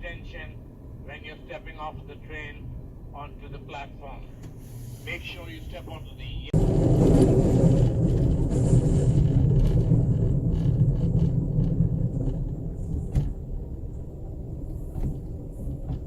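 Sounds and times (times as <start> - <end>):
train rumble from inside: 0.0 - 16.0.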